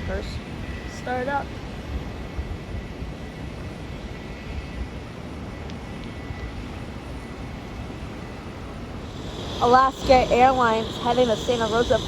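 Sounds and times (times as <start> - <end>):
faint high whine: 0.0 - 12.0
jet airliner rumble: 0.0 - 12.0.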